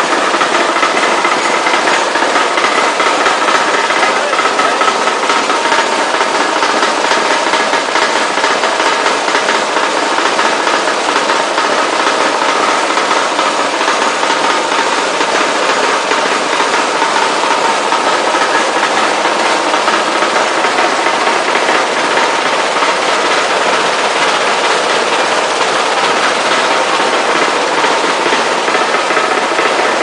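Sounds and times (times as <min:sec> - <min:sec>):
machine running: 0:00.0 - 0:30.0.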